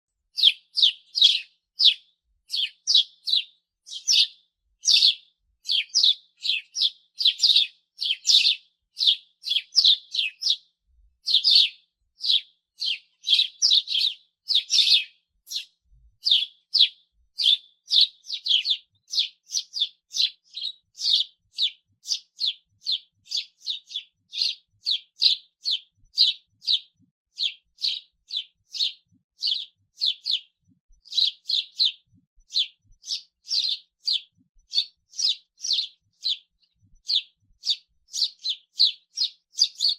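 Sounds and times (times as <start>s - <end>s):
sparrow chirping: 0.3s - 39.9s.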